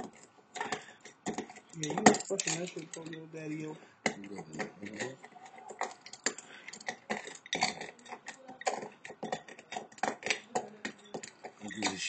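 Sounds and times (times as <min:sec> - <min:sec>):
tablets crackling: 0:00.0 - 0:12.0.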